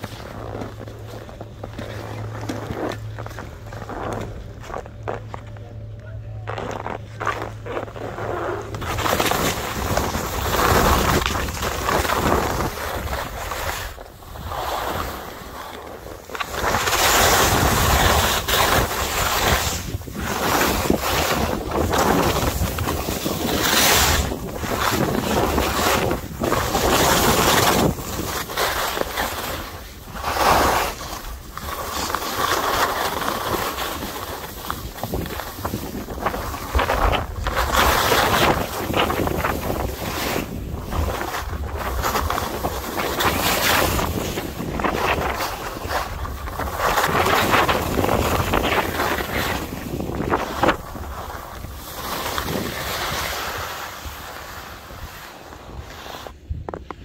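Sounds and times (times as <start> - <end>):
skis scraping over snow: 0.0 - 57.0
wind rushing over microphone: 8.3 - 57.0.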